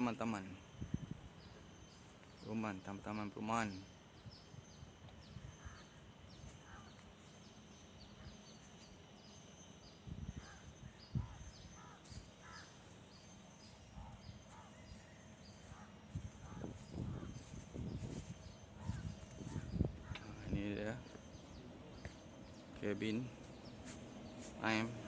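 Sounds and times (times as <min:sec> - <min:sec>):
high bird chirps: 0:00.0 - 0:25.0
lower bird calls: 0:00.0 - 0:25.0.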